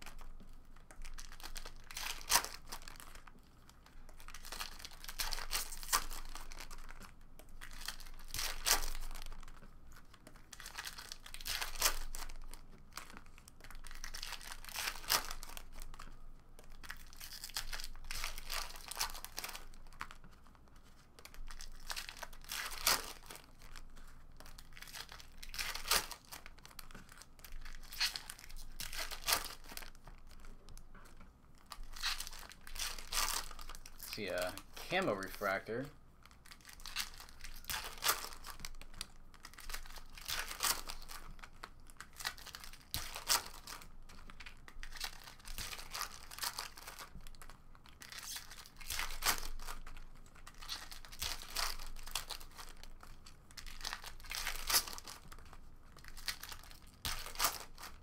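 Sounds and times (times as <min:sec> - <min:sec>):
foil wrappers crinkling: 0:00.0 - 0:58.0.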